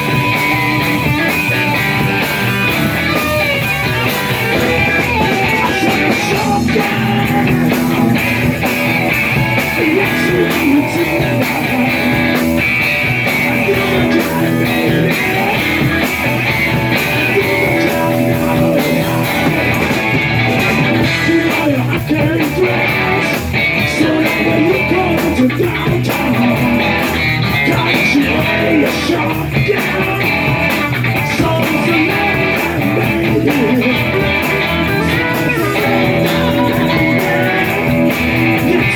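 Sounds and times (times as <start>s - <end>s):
bass: 0.0s - 38.9s
drums: 0.0s - 38.9s
electric guitar: 0.0s - 38.9s.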